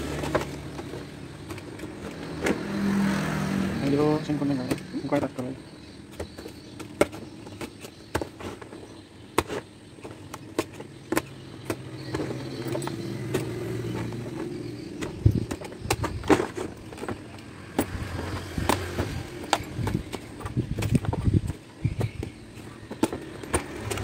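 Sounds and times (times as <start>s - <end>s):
vehicle engine hum: 0.0s - 8.1s, 8.9s - 24.0s.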